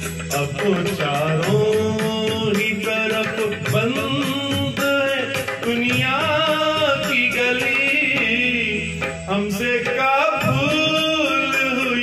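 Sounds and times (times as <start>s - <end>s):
backing music: 0.0s - 12.0s
man singing: 0.0s - 12.0s.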